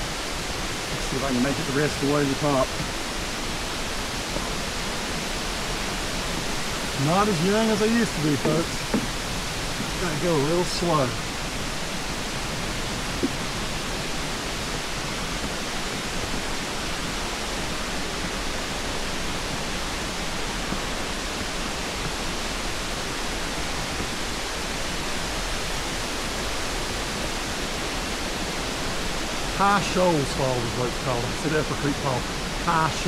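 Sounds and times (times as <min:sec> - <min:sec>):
mountain creek rushing: 0:00.0 - 0:33.0.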